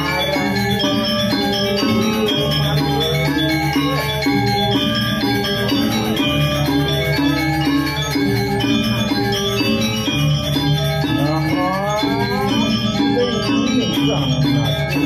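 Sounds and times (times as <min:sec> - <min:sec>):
gamelan playing: 0:00.0 - 0:15.0.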